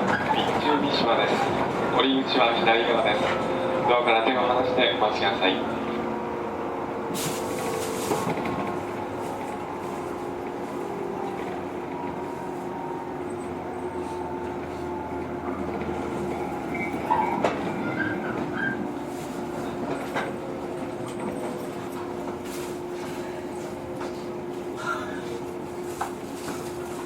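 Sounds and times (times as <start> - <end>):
train running hum: 0.0 - 27.0
wheel and rail noise: 0.0 - 27.0.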